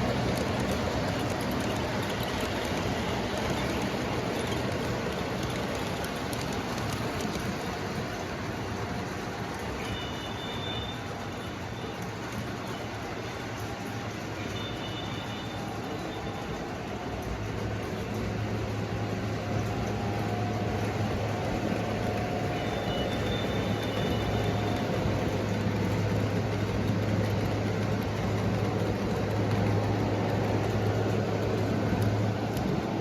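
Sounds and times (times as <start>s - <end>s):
model train motor hum: 0.0s - 33.0s
wheels rattling over rails: 0.0s - 33.0s.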